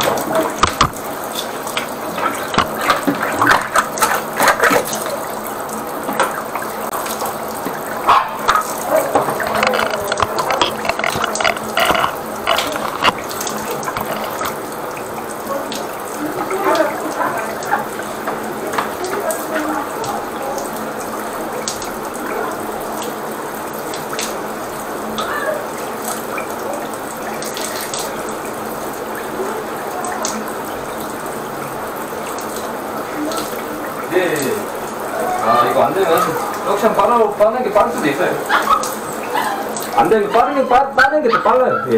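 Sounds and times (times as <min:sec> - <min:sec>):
water rushing through drain: 0:00.0 - 0:41.9.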